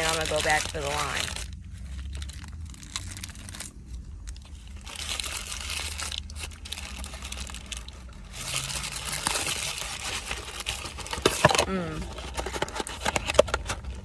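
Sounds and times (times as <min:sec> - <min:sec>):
wrapper crinkling: 0:00.0 - 0:14.0.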